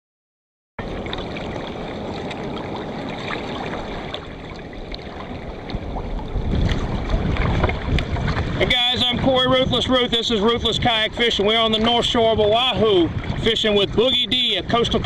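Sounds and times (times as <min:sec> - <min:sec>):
water lapping against kayak hull: 0:00.8 - 0:15.0.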